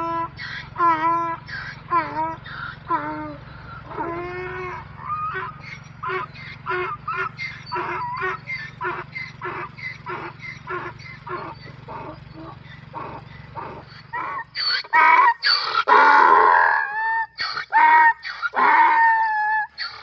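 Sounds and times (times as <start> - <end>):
donkey braying: 0.0 - 20.0.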